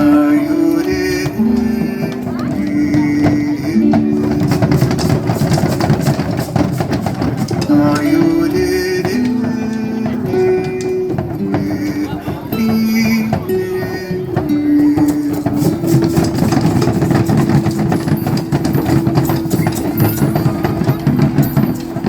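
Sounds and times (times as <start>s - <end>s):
percussion group drumming: 0.0s - 22.0s.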